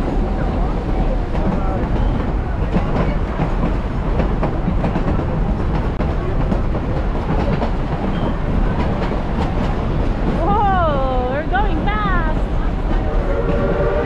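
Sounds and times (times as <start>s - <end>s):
wheels clacking over rails: 0.0s - 13.8s
train car rumbling: 0.0s - 14.0s.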